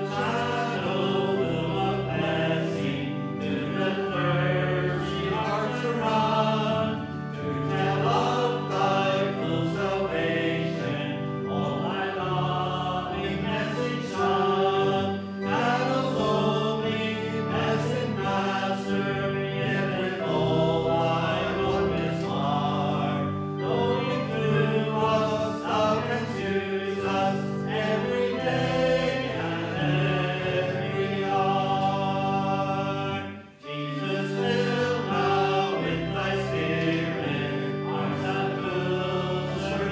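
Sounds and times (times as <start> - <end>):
congregation singing a hymn: 0.0 - 39.9
instrumental accompaniment: 0.0 - 39.9.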